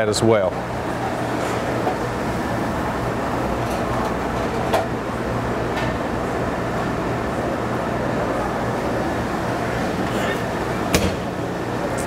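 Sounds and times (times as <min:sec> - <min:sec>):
kitchen ventilation hood hum: 0:00.0 - 0:12.0.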